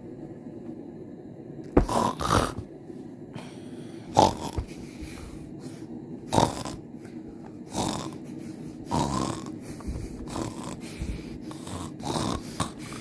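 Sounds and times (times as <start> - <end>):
person snoring: 1.8 - 2.7, 3.4 - 13.0.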